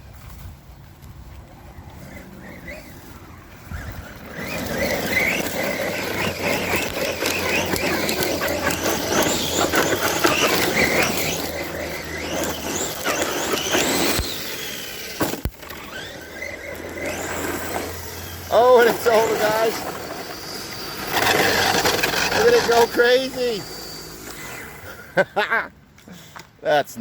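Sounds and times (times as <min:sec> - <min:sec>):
wheels and chassis rattling: 0:00.0 - 0:27.0
high electric motor whine: 0:01.3 - 0:25.3.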